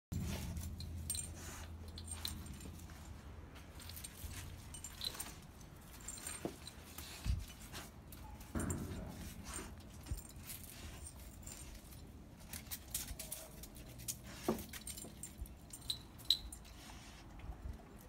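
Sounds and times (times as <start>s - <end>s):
dog collar tags jingling: 0.2s - 17.2s.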